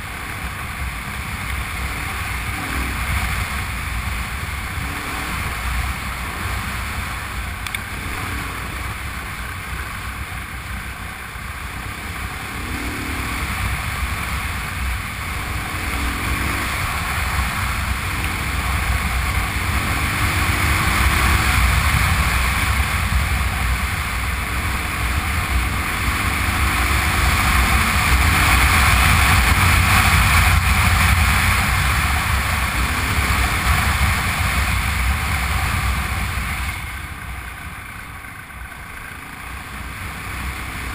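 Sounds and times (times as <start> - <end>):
motorcycle engine rumble: 0.0 - 40.9.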